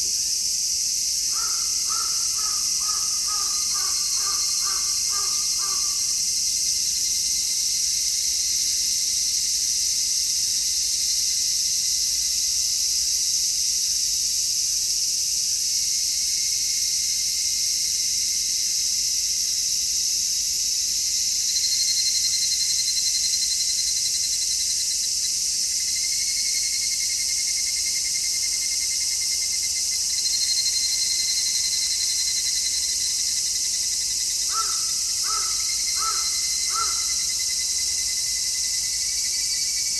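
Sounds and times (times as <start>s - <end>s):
cicadas chorus: 0.0s - 39.9s
pulsing cicada calls: 0.0s - 39.9s.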